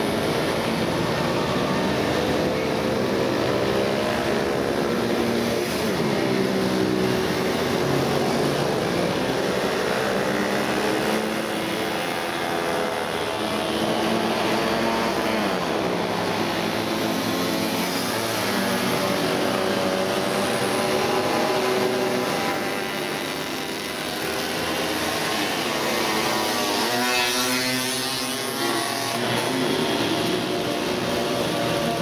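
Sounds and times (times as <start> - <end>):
two-stroke moped engines buzzing: 0.0 - 32.0.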